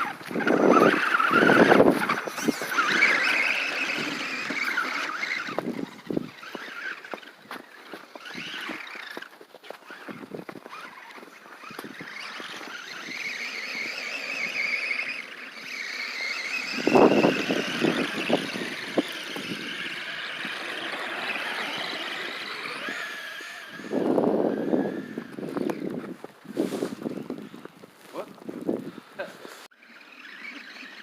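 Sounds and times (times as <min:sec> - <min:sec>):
electric motor whining: 0:00.0 - 0:27.8, 0:29.7 - 0:31.0.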